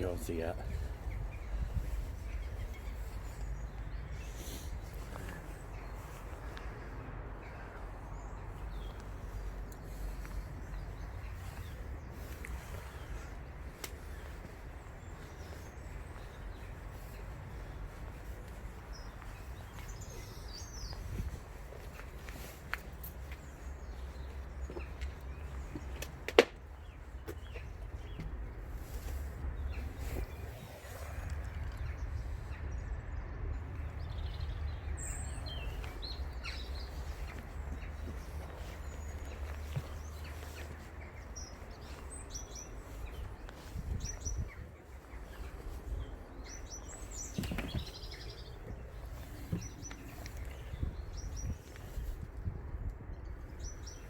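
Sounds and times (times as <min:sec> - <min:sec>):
small birds chirping: 0:00.0 - 0:33.0, 0:33.7 - 0:54.0
low outdoor rumble: 0:00.0 - 0:54.0.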